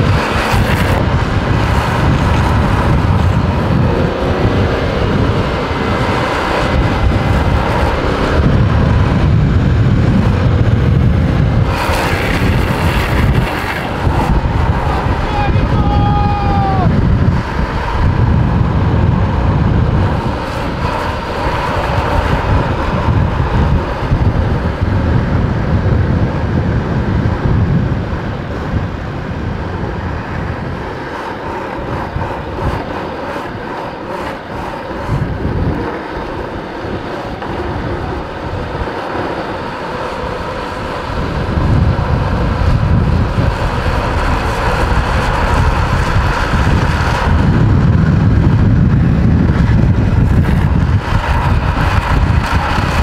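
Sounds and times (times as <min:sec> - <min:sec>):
road rumble: 0:00.0 - 0:53.0
wind buffeting microphone: 0:00.0 - 0:53.0.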